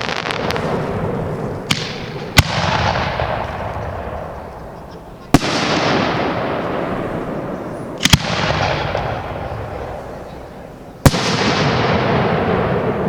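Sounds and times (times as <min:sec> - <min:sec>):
aerial fireworks bangs: 0:00.0 - 0:04.5, 0:05.3 - 0:10.1, 0:11.0 - 0:13.0.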